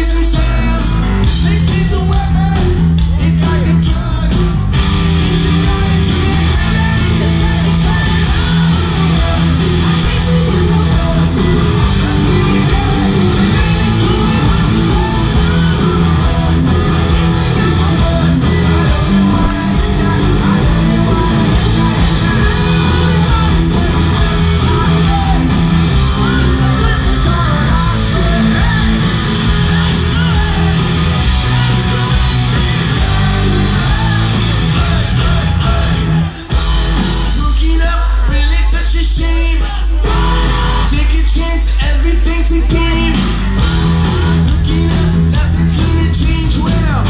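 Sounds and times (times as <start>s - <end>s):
punk rock band playing live: 0.0s - 47.0s.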